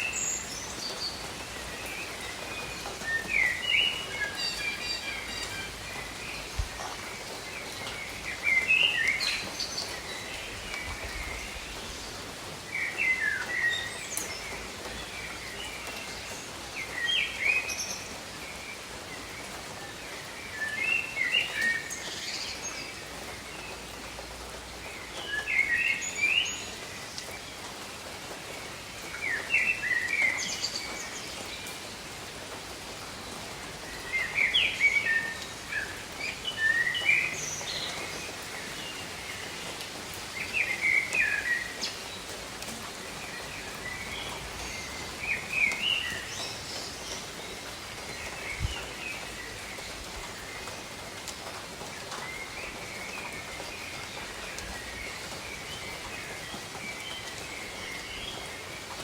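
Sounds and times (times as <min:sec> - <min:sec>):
songbird chirping: 0:00.0 - 0:24.2, 0:33.0 - 0:59.0
steady rain: 0:00.0 - 0:59.0.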